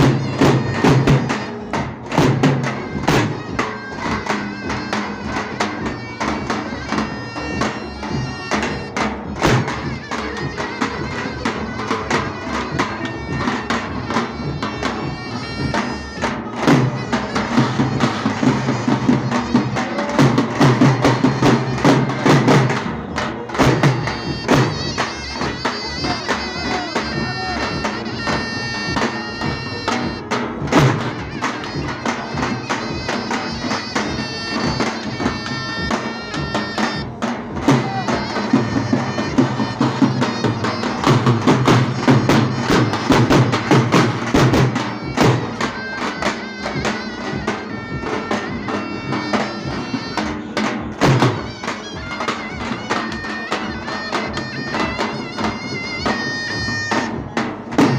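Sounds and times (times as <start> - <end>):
heavy bass drum beat: 0.0 - 57.9
shrill reedy zurna melody: 0.0 - 57.9.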